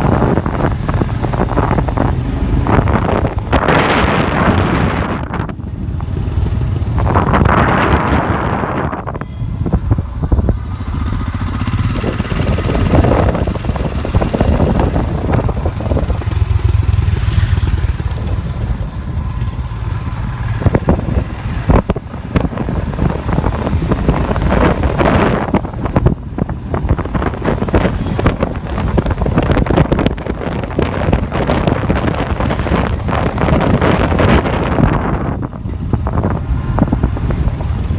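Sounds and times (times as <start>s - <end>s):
motorcycle engine running: 0.0s - 8.9s, 9.5s - 37.9s
wind buffeting microphone: 0.0s - 37.9s.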